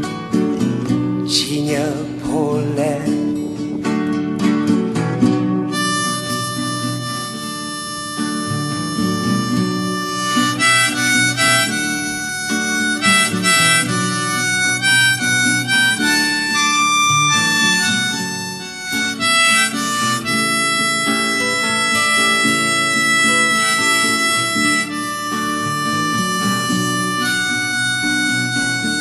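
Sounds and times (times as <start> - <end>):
instrumental song melody: 0.0 - 29.0.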